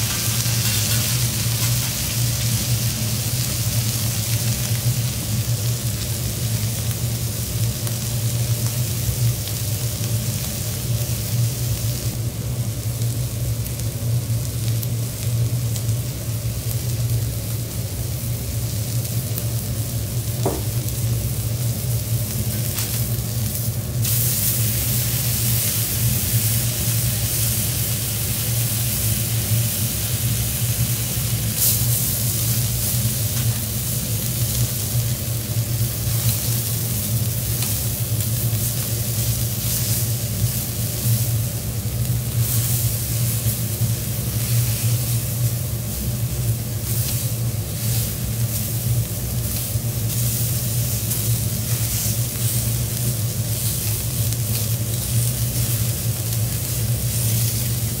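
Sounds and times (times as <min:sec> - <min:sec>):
steady low hum: 0:00.0 - 0:58.0
steak sizzling on griddle: 0:00.0 - 0:58.0.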